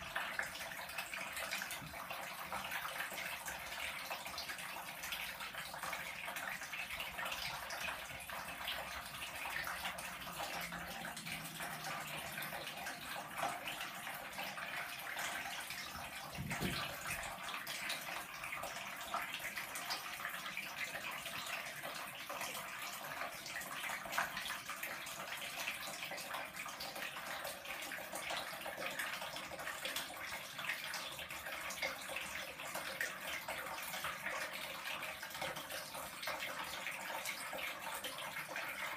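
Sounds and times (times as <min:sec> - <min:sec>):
tap water splashing into tub: 0:00.0 - 0:38.9.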